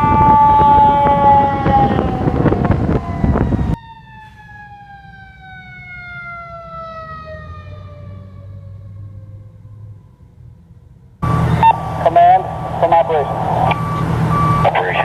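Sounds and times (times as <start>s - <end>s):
fire truck siren: 0.0s - 15.0s
low engine hum: 0.1s - 15.0s.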